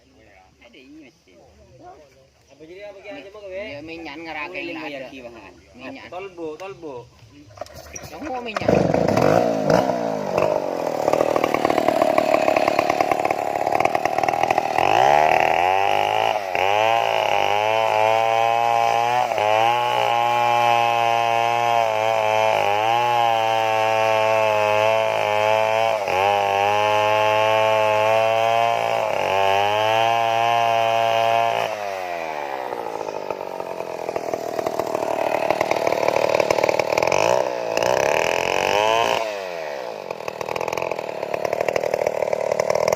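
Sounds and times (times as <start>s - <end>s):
chainsaw cutting wood: 7.6s - 42.9s.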